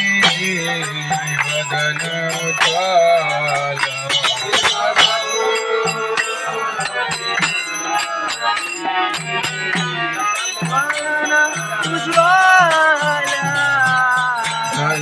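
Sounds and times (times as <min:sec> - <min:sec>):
voices singing devotional song: 0:00.0 - 0:15.0.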